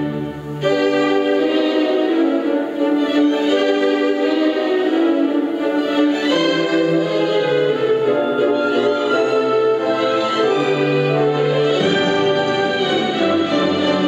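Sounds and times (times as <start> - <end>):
classical string music: 0.0 - 14.0.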